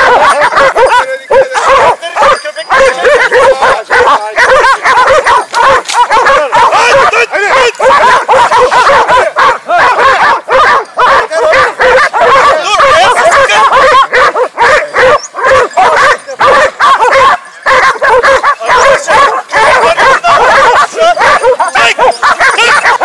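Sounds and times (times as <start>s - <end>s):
dogs barking and yelping: 0.0s - 23.0s.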